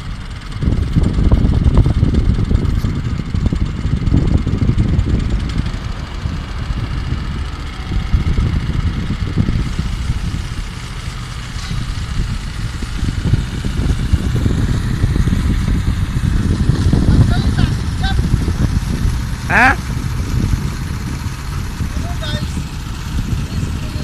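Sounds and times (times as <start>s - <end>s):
petrol engine running: 0.0s - 24.0s.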